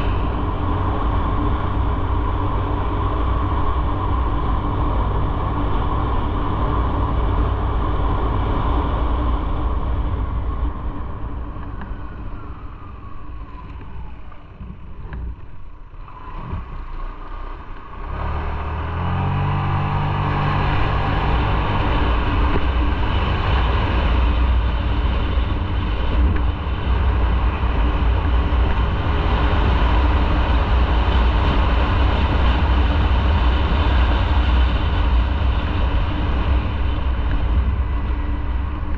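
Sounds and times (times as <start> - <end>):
motorcycle engine accelerating: 0.0 - 38.9
wind rumble on microphone: 0.0 - 38.9.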